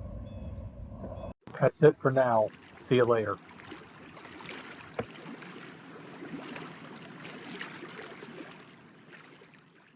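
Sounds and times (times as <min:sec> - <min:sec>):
small waves lapping: 0:01.6 - 0:09.9.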